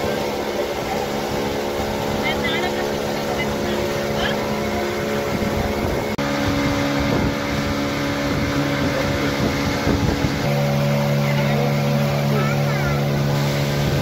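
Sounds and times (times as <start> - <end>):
motorboat engine running: 0.0 - 14.0
water rushing around boat: 0.0 - 14.0
wind: 0.0 - 14.0.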